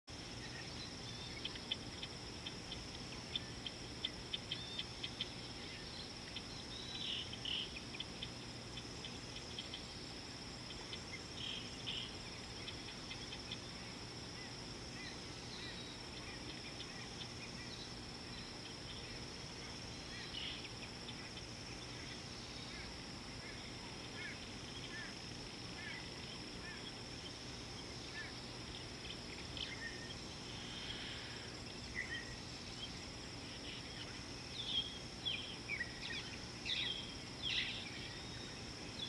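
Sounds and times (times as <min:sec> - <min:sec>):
insect chorus drone: 0:00.1 - 0:39.0.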